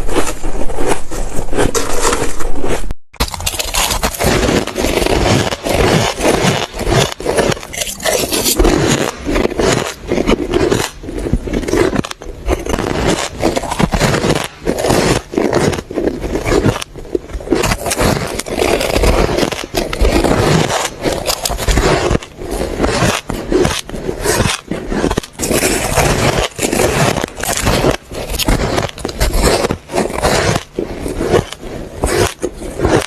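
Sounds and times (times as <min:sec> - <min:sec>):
chewing ice crunching and squeaking: 0:03.2 - 0:33.0.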